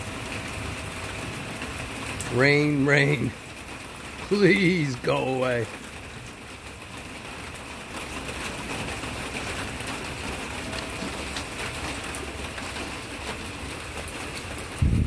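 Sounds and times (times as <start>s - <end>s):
rain on leaves: 0.0s - 15.0s.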